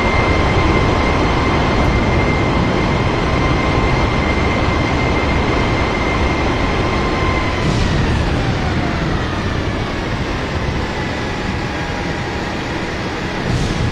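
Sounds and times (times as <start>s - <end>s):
airliner cabin rumble: 0.0s - 13.9s
jet engine whine: 0.0s - 13.9s.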